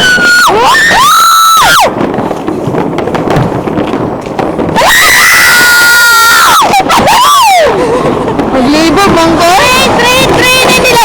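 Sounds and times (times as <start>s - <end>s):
fireworks crackling and popping: 0.0s - 11.0s.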